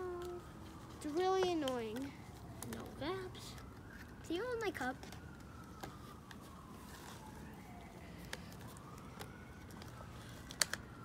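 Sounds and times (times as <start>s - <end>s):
faint siren wailing: 0.0s - 11.0s.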